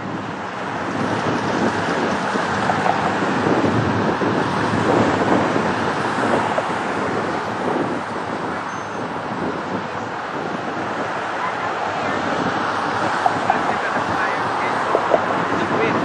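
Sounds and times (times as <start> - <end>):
distant jet airliner roar: 0.0 - 16.0
wind on microphone: 0.0 - 16.0.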